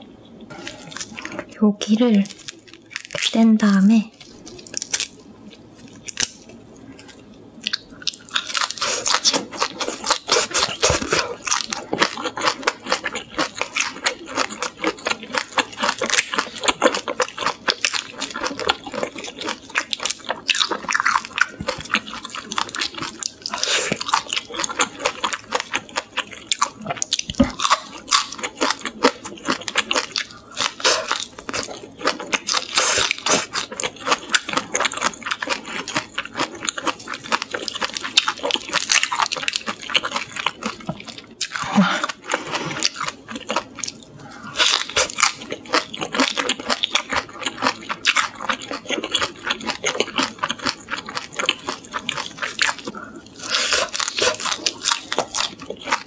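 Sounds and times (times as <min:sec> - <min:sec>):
crunching and chewing shrimp shells: 0:00.5 - 0:01.5, 0:02.2 - 0:03.4, 0:04.2 - 0:56.0.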